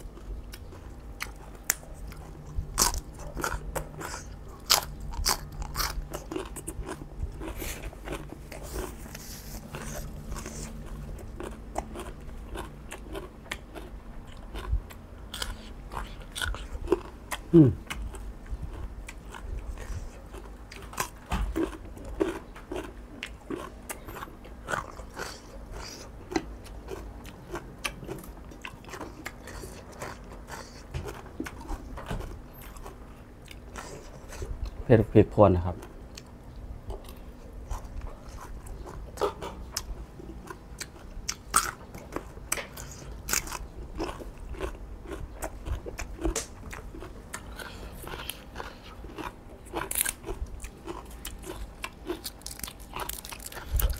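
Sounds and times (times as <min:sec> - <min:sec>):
chewing and crunching: 0:00.0 - 0:53.9.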